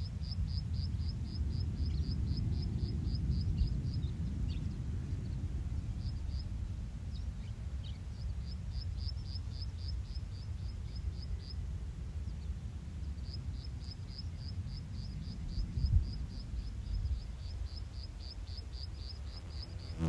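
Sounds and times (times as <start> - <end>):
wind rumble on microphone: 0.0 - 19.2.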